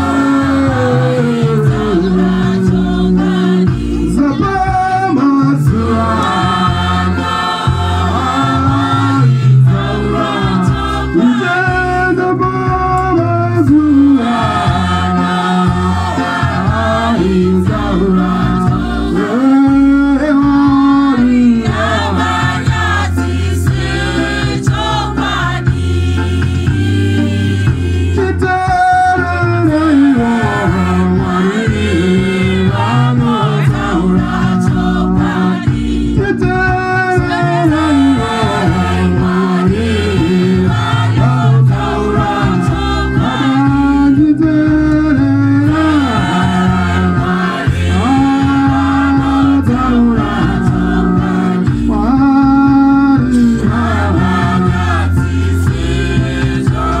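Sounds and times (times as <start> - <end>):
gospel choir singing: 0.0 - 57.0
men's lead vocals: 0.0 - 57.0.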